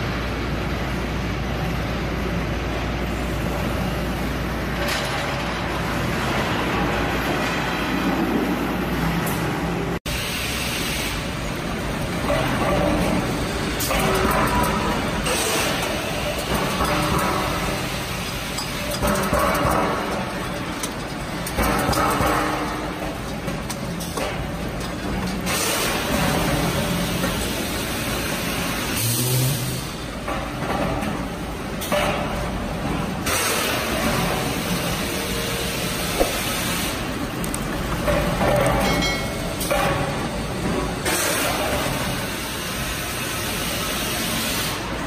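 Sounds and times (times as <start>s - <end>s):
production line machinery running: 0.0s - 45.0s.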